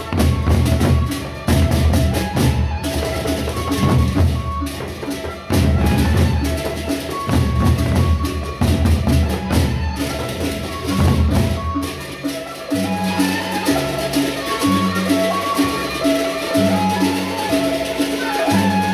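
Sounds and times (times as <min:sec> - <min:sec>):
barrel drums beaten with sticks: 0:00.0 - 0:17.1
cymbals clashing: 0:00.0 - 0:18.9
held melodic notes: 0:00.0 - 0:18.9.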